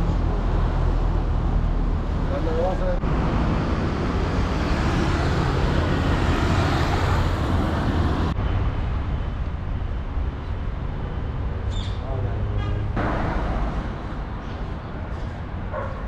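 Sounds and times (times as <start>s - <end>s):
city traffic noise: 0.0s - 16.0s.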